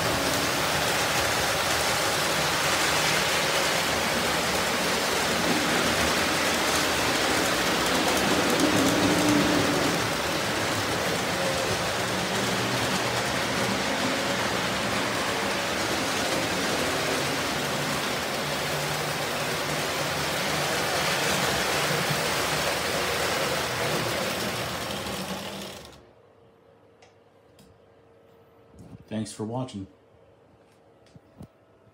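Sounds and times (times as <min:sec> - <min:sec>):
toy train wheels rolling on rails: 0:00.0 - 0:26.0.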